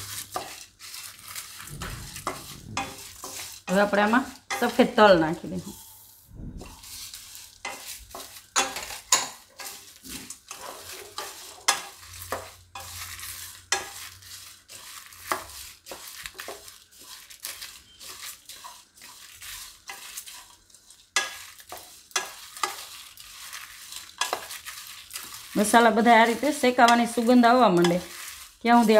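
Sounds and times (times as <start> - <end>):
spatula scraping dry spices in pan: 0.0 - 28.9.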